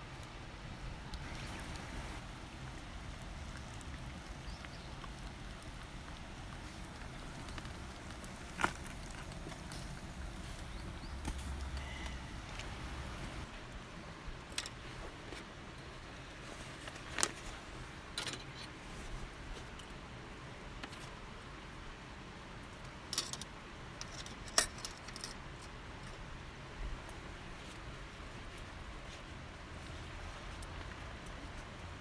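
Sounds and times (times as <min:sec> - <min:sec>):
low steady background noise: 0:00.0 - 0:32.0.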